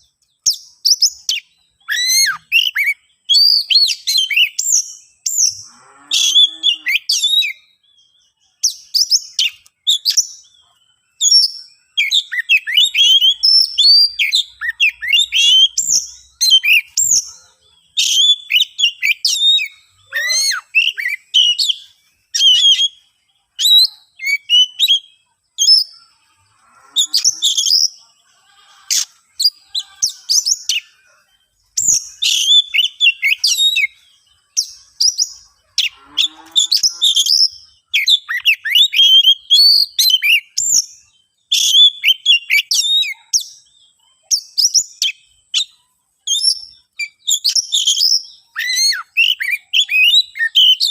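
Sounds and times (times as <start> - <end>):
songbird whistling and chipping: 0.0 - 50.9.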